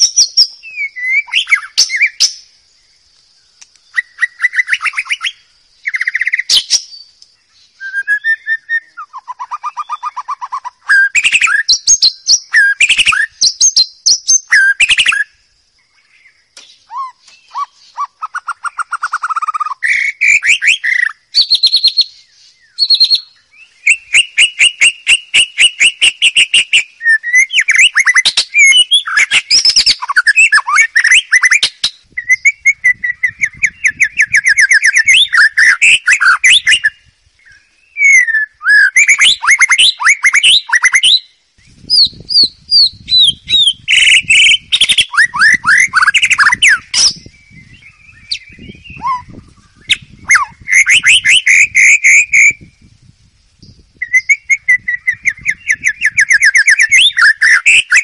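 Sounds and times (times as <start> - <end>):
songbird singing trills and whistles: 0.0 - 58.0.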